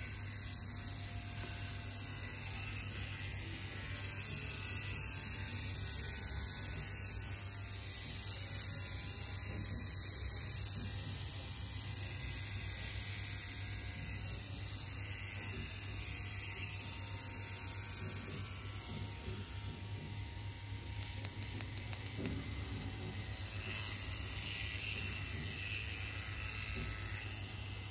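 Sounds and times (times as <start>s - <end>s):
tattoo pen electric hum: 0.0s - 27.9s.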